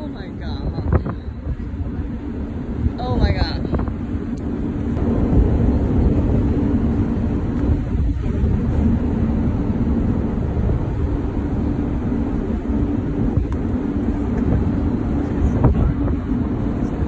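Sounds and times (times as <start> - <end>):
steady hum: 0.0 - 17.0
wind buffeting microphone: 0.0 - 17.0.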